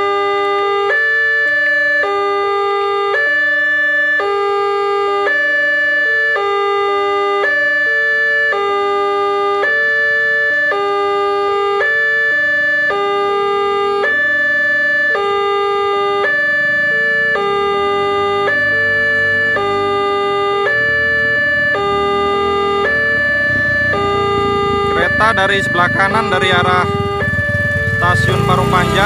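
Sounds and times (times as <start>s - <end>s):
level crossing two-note alarm: 0.0s - 29.0s.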